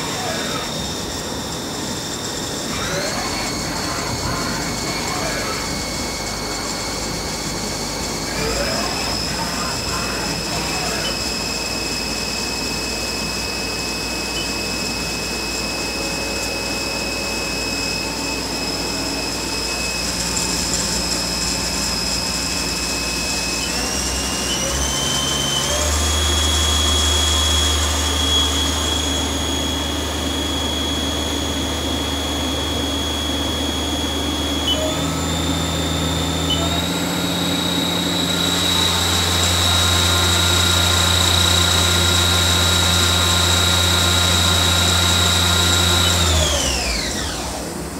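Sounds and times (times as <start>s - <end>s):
high electric drive whine: 0.0s - 47.9s.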